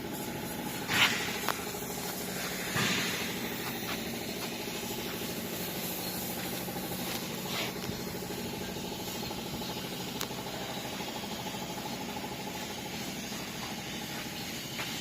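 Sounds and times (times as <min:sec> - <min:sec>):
small diesel engine chugging: 0:00.0 - 0:15.0.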